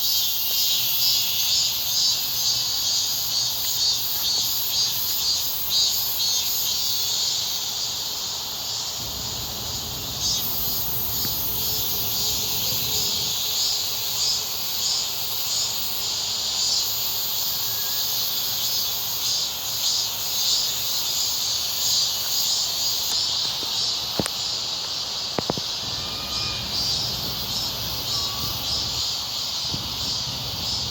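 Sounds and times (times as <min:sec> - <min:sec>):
insects chirring: 0:00.0 - 0:30.9.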